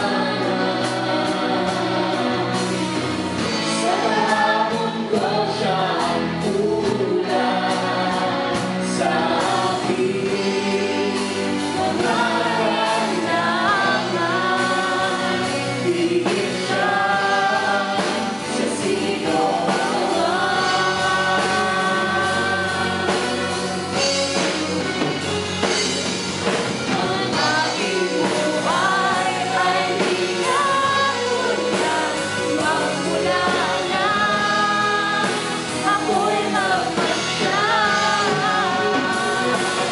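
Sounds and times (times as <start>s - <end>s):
woman and man singing: 0.0s - 25.2s, 26.8s - 39.9s
worship band playing: 0.0s - 39.9s.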